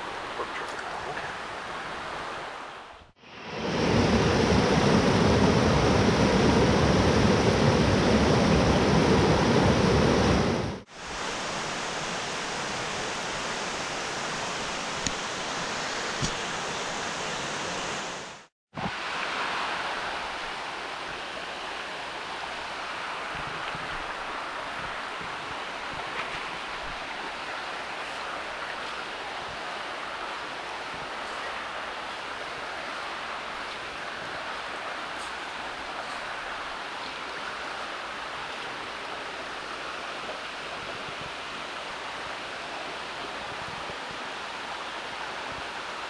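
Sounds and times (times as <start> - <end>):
creek rushing over rocks: 0.0 - 46.0.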